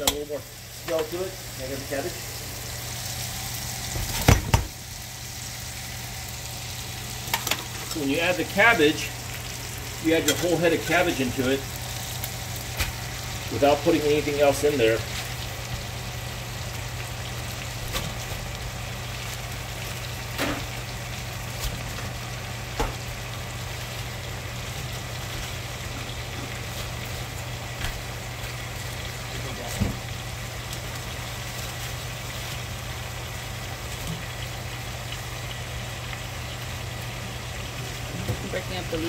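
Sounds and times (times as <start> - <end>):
cabbage frying sizzle: 0.0 - 39.0.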